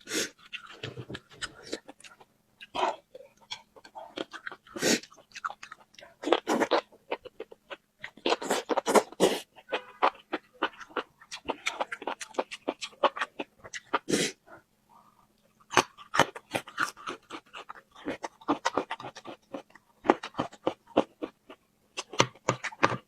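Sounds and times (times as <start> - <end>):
chewing and crunching food: 0.0 - 23.0.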